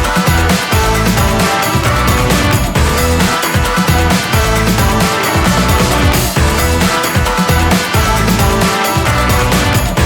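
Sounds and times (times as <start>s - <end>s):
energetic rock music: 0.0s - 10.0s.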